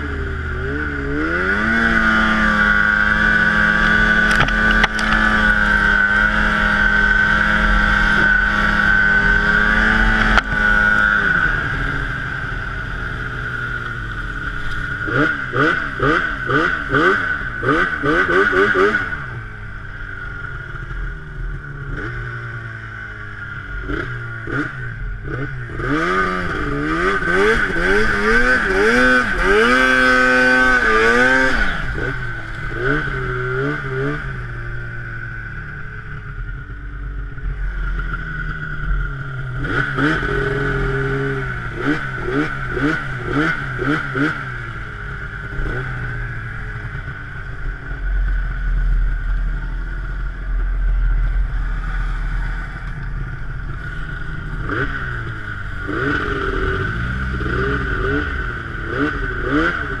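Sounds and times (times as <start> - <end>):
snowmobile engine revving: 0.0 - 20.9, 23.4 - 35.0, 37.6 - 60.0
steady high whine: 0.0 - 60.0.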